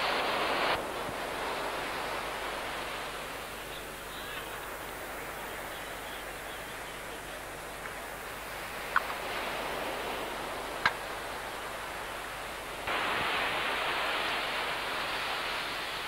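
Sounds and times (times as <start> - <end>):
surf: 0.0 - 16.0
wind: 0.0 - 16.0.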